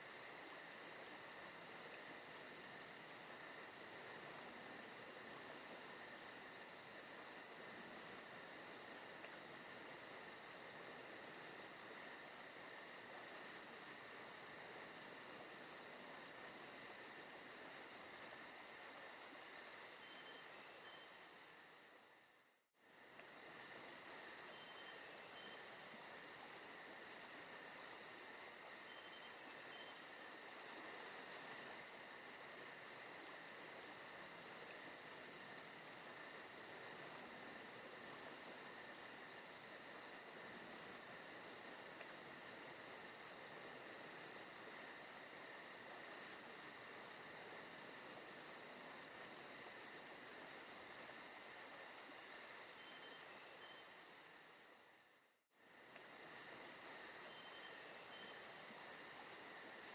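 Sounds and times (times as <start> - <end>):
crickets and insects chirring: 0.0 - 59.9.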